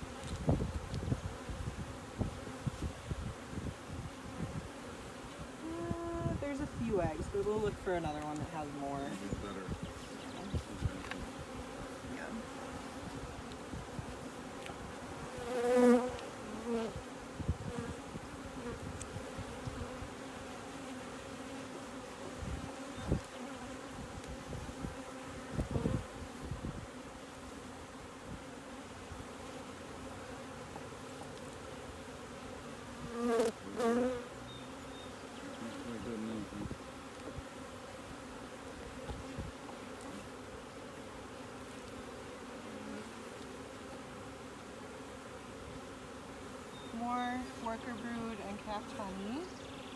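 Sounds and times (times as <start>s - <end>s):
bees buzzing: 0.0s - 49.9s.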